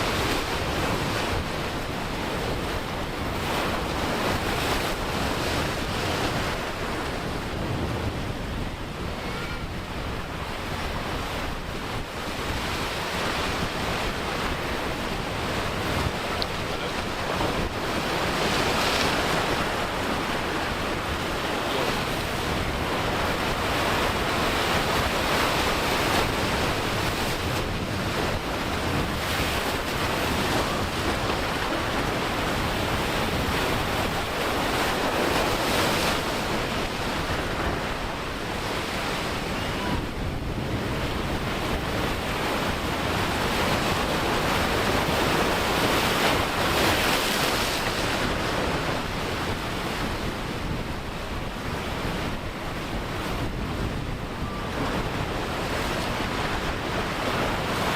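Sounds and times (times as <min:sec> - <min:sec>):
breaking surf: 0:00.0 - 0:57.9
wind on microphone: 0:00.0 - 0:57.9.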